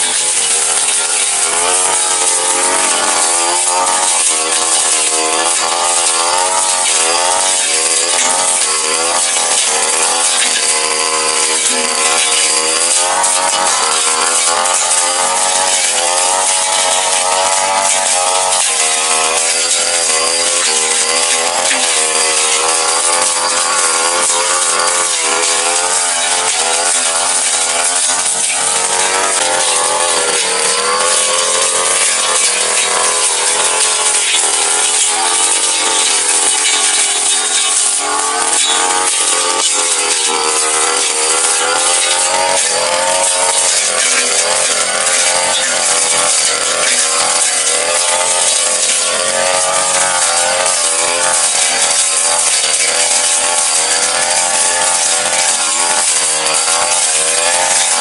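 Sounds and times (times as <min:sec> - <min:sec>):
brush cutter engine at high revs: 0:00.0 - 0:58.0.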